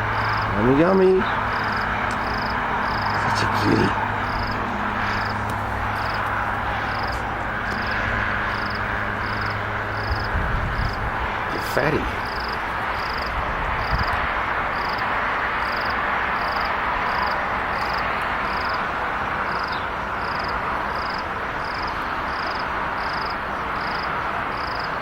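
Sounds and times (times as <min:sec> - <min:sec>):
cricket chirping: 0:00.0 - 0:11.0, 0:12.2 - 0:14.2, 0:14.8 - 0:18.9, 0:19.5 - 0:25.0
background insects hissing: 0:00.0 - 0:25.0.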